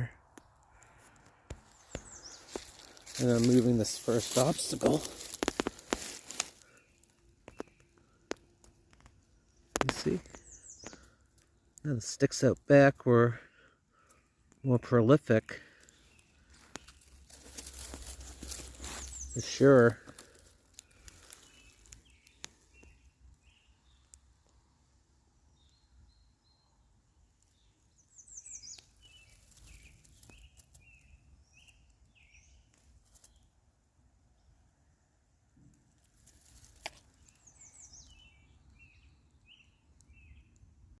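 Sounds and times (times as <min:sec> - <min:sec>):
faint birdsong chirps: 0:00.0 - 0:41.0.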